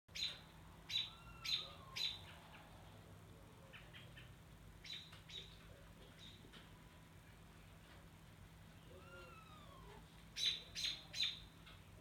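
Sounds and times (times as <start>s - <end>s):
songbird chirps: 0.1s - 2.9s, 3.5s - 7.8s, 8.7s - 12.0s.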